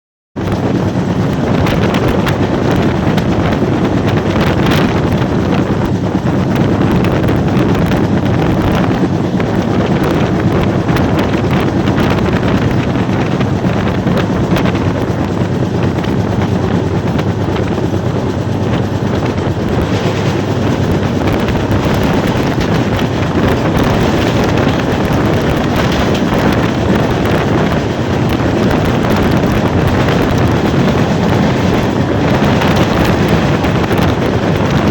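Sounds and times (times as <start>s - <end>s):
fast train rushing: 0.4s - 34.9s
wind buffeting microphone: 0.4s - 34.9s.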